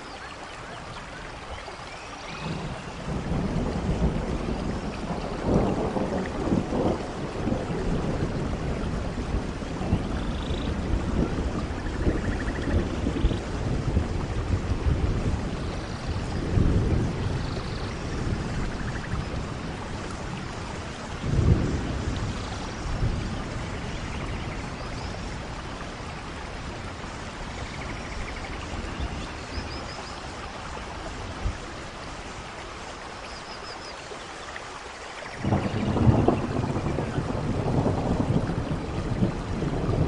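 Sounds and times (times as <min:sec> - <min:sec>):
steady rain: 0:00.0 - 0:40.0
thunder rumbling: 0:02.3 - 0:29.9, 0:35.3 - 0:40.0.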